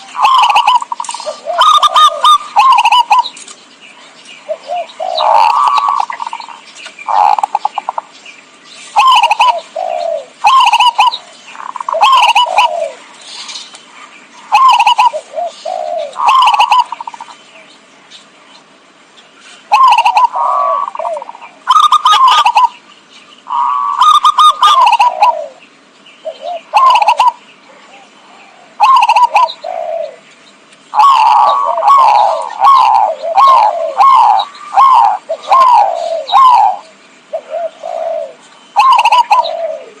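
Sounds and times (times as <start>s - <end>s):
doves cooing: 0.0s - 17.9s, 19.6s - 40.0s.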